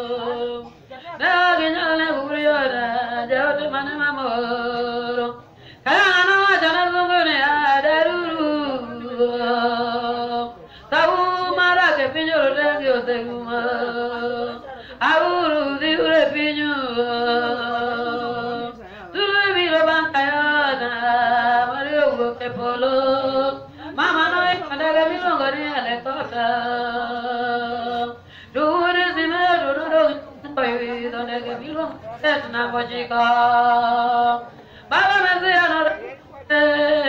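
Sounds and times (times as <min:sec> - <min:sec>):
person singing a prayer song: 0:00.0 - 0:37.0.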